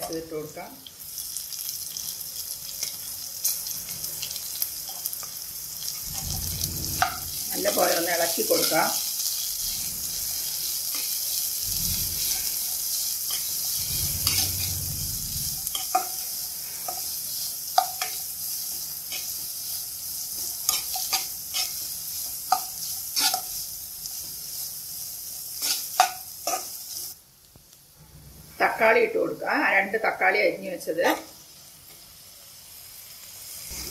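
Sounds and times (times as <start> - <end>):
vegetables sizzling in hot fat: 0.0 - 33.9.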